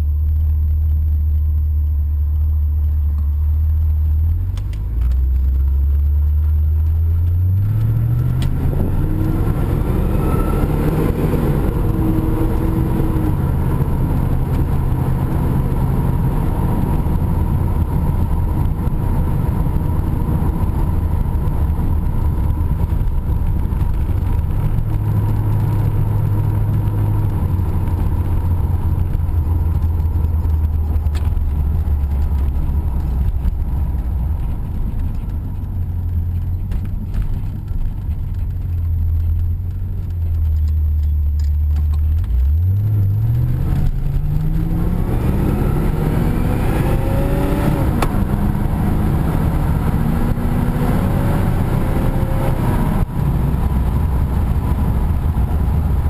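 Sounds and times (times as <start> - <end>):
car engine humming while driving: 0.0 - 56.0.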